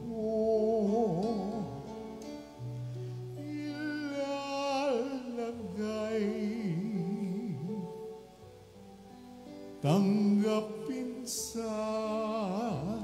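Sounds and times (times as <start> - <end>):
person singing with vibrato: 0.0 - 8.6, 9.7 - 13.0.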